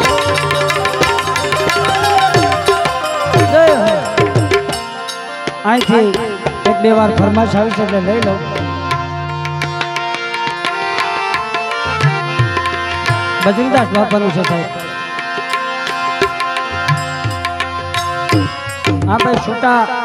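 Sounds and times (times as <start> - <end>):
tabla strokes: 0.0 - 19.7
held melody notes: 0.0 - 20.0.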